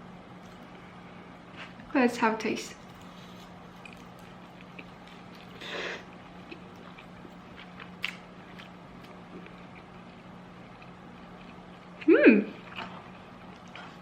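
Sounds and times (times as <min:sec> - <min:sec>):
steady low hum: 0:00.0 - 0:14.0
quiet chewing: 0:02.8 - 0:14.0.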